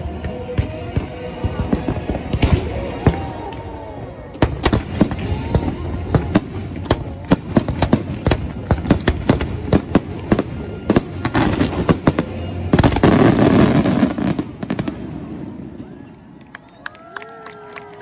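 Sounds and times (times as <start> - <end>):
fireworks bursting: 0.0 - 15.8.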